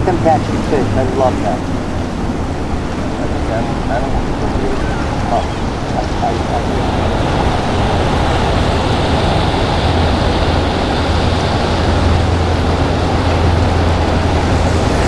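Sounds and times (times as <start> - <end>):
boat engines droning: 0.0 - 15.0
rushing water: 0.0 - 15.0
wind noise: 0.0 - 15.0.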